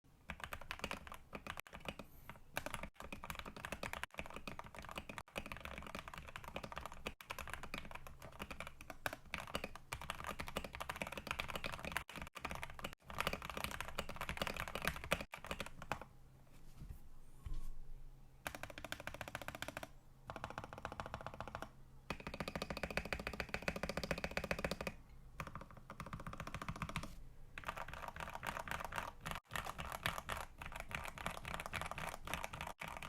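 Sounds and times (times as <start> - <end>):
mechanical keyboard typing: 0.2 - 16.1, 18.4 - 33.0.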